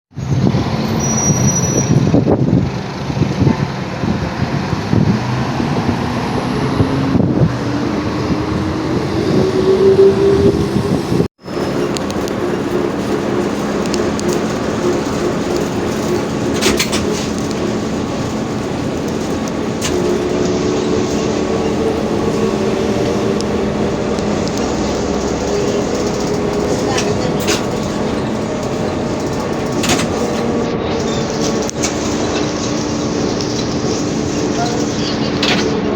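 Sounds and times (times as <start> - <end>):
trolleybus running noise: 0.1 - 35.9.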